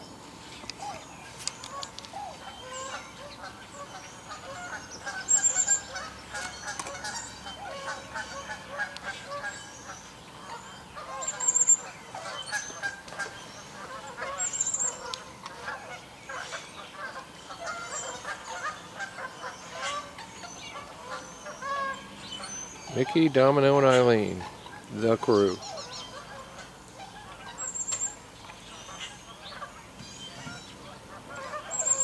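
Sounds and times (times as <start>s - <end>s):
geese and swans honking: 0.0s - 32.0s
loud sharp bird calls: 0.0s - 32.0s.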